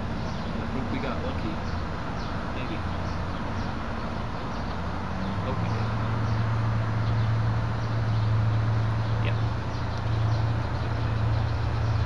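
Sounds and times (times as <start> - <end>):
birds chirping: 0.0 - 12.0
low engine hum: 0.0 - 12.0.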